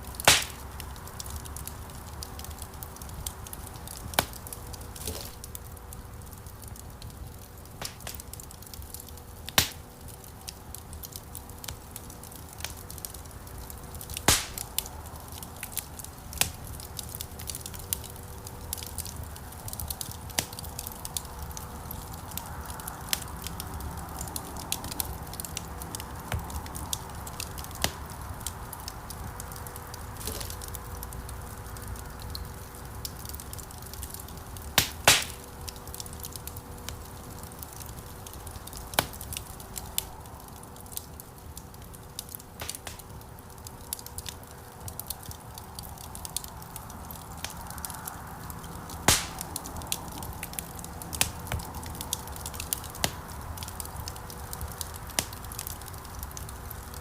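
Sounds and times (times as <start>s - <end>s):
low rumble of flames: 0.0s - 57.0s
wood fire crackling: 0.0s - 57.0s
loud fire pops: 0.1s - 5.7s, 6.3s - 23.6s, 24.2s - 31.4s, 32.0s - 40.2s, 40.9s - 57.0s.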